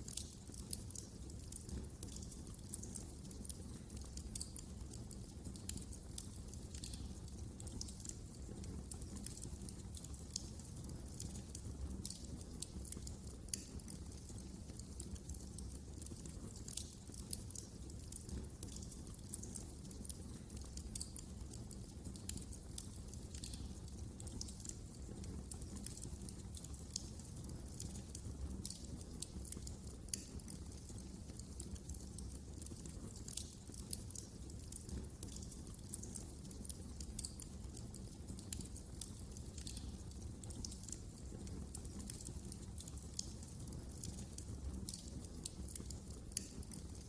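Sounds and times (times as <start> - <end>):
low rumble of flames: 0.0 - 47.0
wood fire crackling: 0.0 - 47.0.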